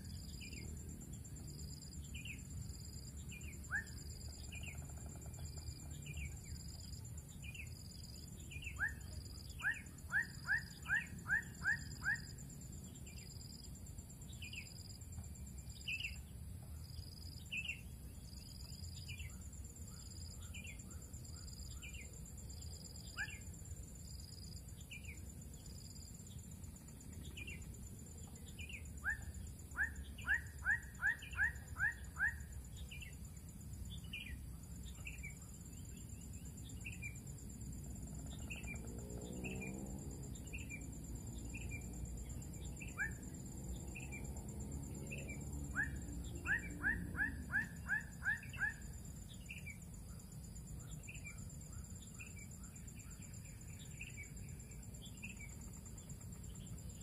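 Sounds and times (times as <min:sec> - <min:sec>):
insect trill: 0:00.0 - 0:57.0.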